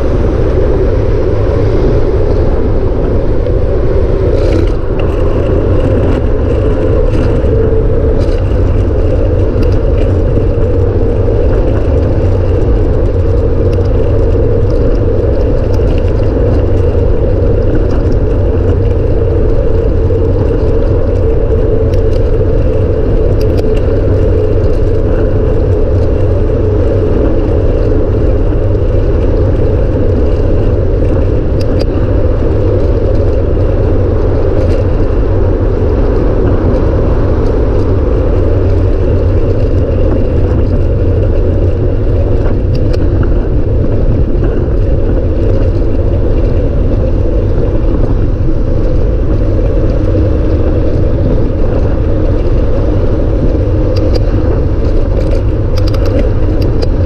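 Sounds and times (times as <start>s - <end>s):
freeway traffic passing: 0.0s - 57.0s
wind rumble on microphone: 0.0s - 57.0s.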